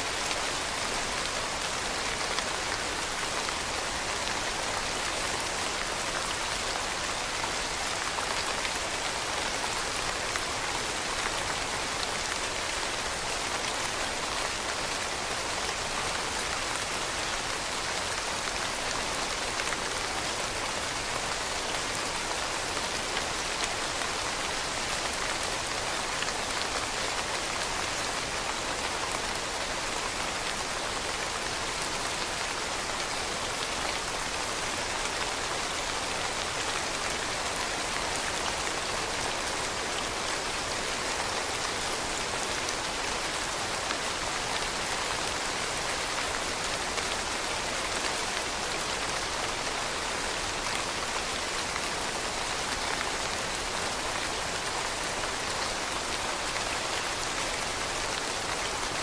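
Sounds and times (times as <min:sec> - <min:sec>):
rain pattering on leaves: 0:00.1 - 0:59.0.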